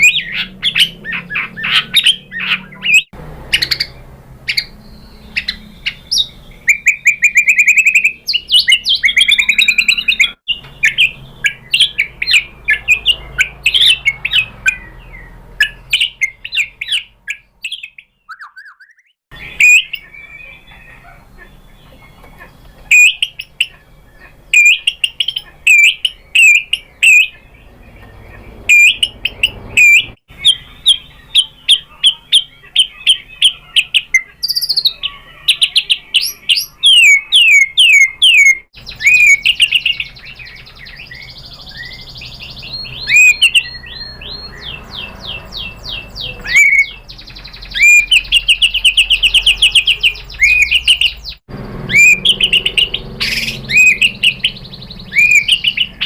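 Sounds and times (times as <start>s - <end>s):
bird singing whistled phrases: 0.0s - 22.2s, 22.8s - 56.0s.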